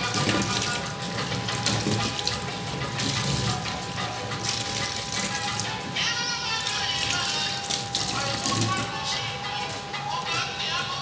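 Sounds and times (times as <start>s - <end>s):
tap water running into a sink: 0.0s - 9.0s.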